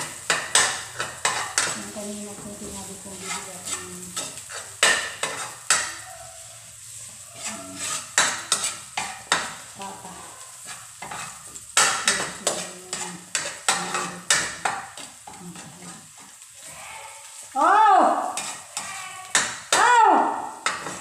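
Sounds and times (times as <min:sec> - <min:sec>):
metal spatula scraping pan: 0:00.0 - 0:06.0, 0:07.0 - 0:09.7, 0:10.6 - 0:17.5, 0:18.2 - 0:19.8, 0:20.6 - 0:21.0
food frying: 0:00.0 - 0:21.0.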